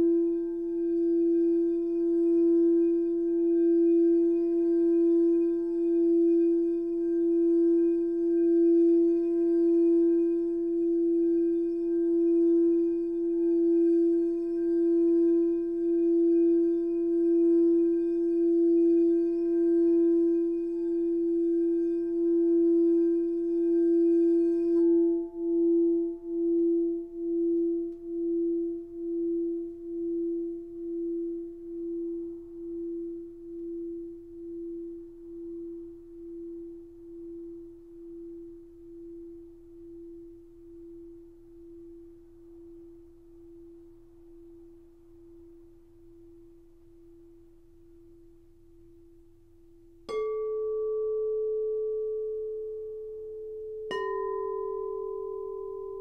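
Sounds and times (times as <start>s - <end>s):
crystal singing bowl ringing: 0.0s - 47.3s, 50.0s - 56.0s.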